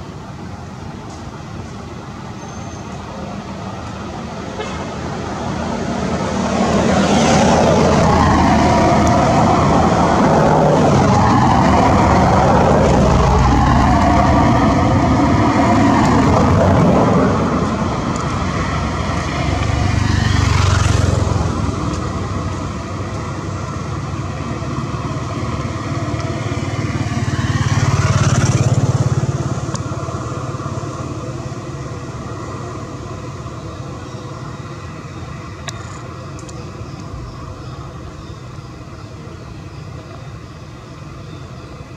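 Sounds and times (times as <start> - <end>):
engines running close by: 0.0 - 41.9
vehicles passing: 0.0 - 41.9.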